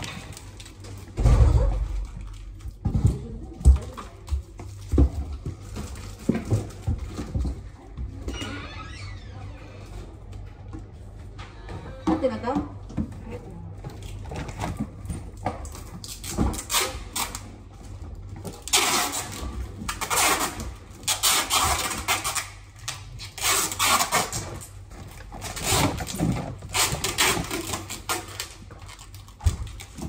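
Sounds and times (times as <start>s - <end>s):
packaging rustling and scraping: 0.0s - 8.3s, 13.8s - 30.0s.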